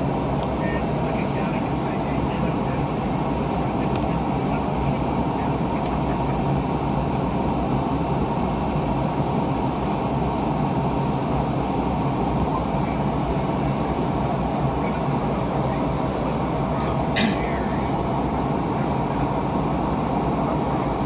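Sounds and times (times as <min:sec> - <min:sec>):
airliner cabin noise: 0:00.0 - 0:21.0
low engine drone: 0:00.0 - 0:21.0.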